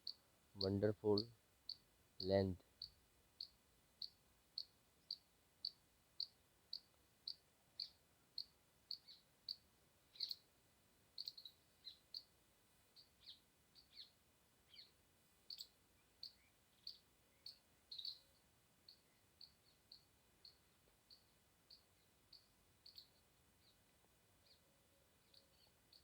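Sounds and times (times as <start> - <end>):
small bird chirping: 0.0 - 10.5, 11.1 - 26.0.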